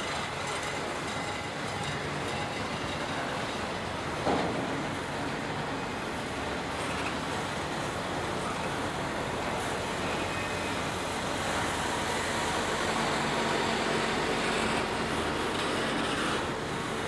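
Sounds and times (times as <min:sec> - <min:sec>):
steel train wheels on rails: 0:00.0 - 0:17.0.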